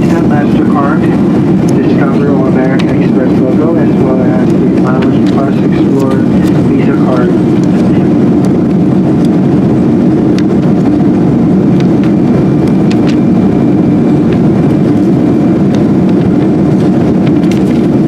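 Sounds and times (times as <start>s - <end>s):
jet engine and airflow roar: 0.0s - 18.0s.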